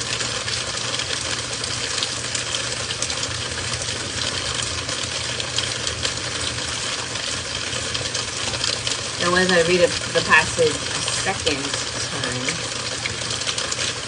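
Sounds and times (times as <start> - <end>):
heavy rain falling: 0.0 - 14.0
low steady hum: 0.0 - 14.0.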